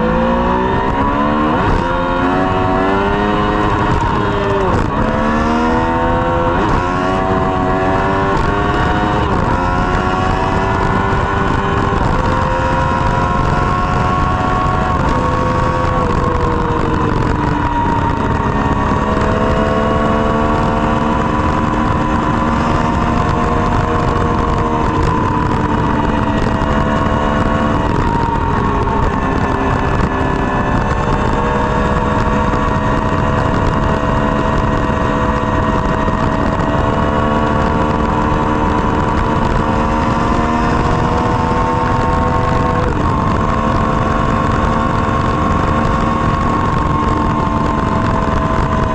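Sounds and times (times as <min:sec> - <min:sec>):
motorcycle engine revving: 0:00.0 - 0:48.9
steady rushing noise: 0:00.0 - 0:48.9.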